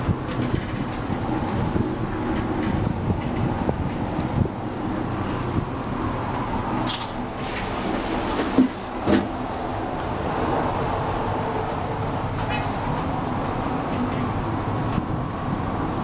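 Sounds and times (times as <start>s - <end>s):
gondola cabin running noise: 0.0s - 16.0s.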